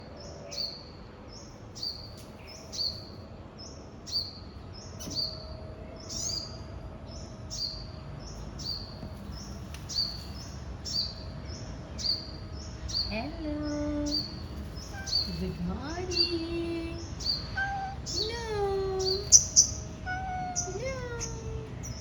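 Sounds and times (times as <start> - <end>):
low background hum: 0.0 - 22.0
bird chirping: 0.2 - 22.0.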